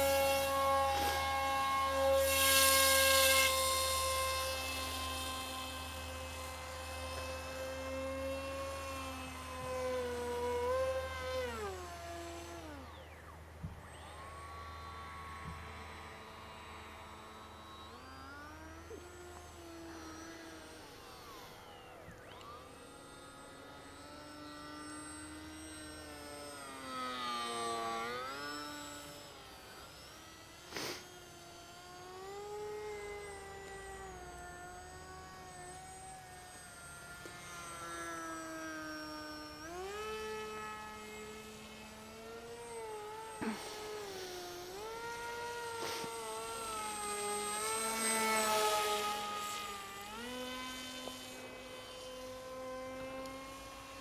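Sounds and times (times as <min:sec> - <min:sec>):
model plane motor whining: 0:00.0 - 0:54.0.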